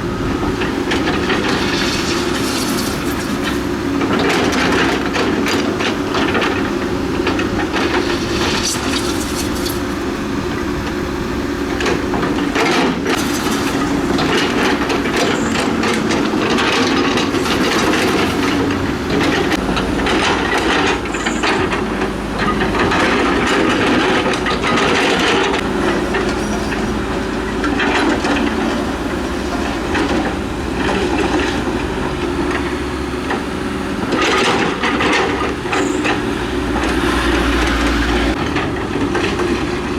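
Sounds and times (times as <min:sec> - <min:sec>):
diesel engine under load: 0:00.0 - 0:39.9
steel tracks rattling and clanking: 0:00.0 - 0:39.9.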